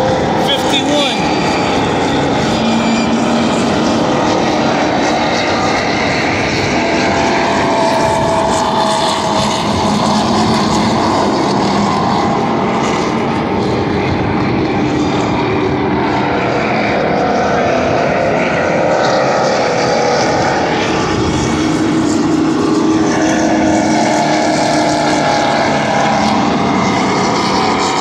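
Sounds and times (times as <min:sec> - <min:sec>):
race truck engines droning: 0:00.0 - 0:28.0.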